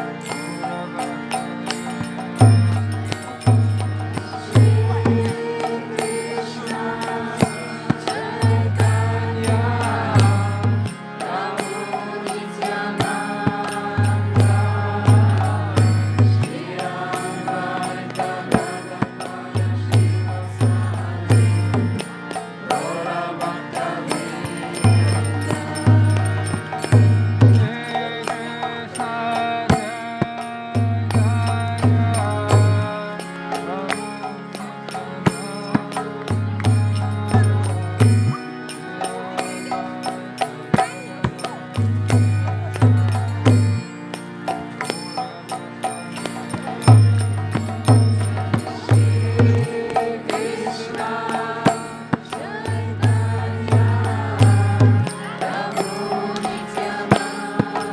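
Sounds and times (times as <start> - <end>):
instrumental accompaniment: 0.0 - 57.9
voices chanting a melody: 0.0 - 57.9
steady percussion beat: 1.3 - 33.0, 40.6 - 57.9.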